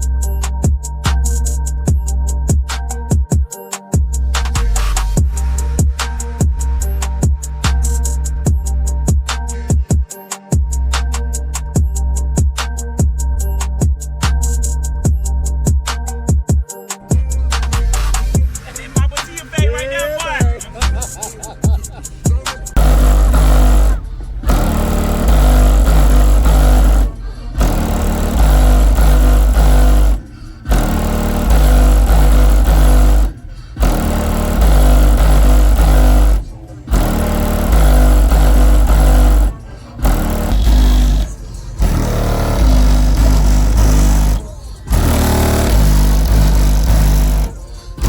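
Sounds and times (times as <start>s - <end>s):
bass-heavy rap music: 0.0s - 48.0s.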